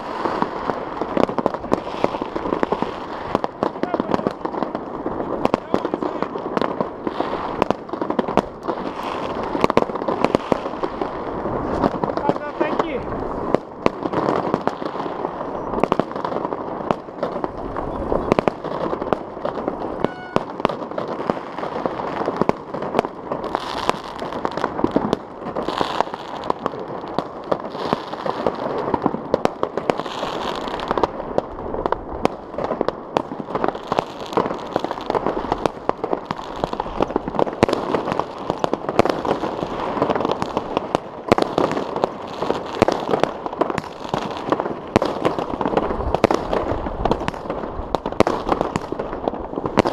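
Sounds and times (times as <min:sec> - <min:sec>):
fireworks cracks and bangs: 0:00.0 - 0:49.9.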